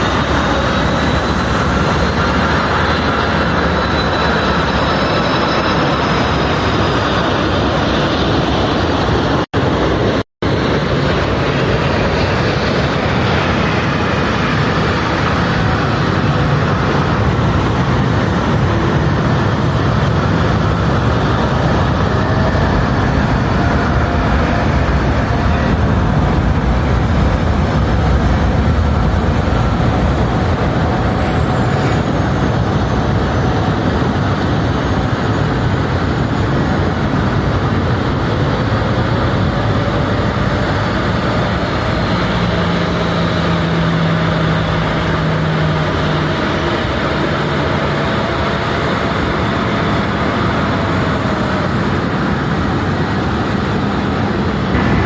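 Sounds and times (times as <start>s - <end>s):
jet airliners rushing noise: 0.0s - 55.0s
steady low hum: 0.0s - 55.0s.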